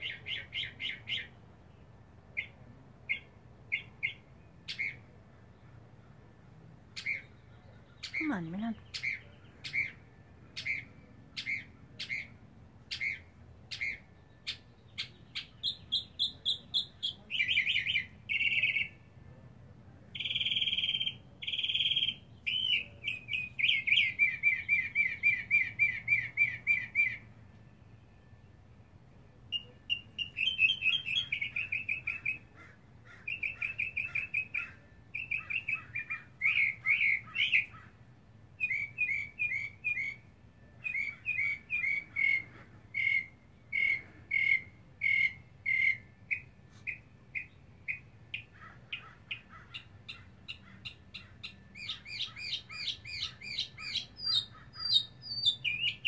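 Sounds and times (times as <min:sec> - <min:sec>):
mockingbird singing: 0:00.0 - 0:06.2, 0:06.9 - 0:19.1, 0:20.1 - 0:27.3, 0:29.2 - 0:56.0.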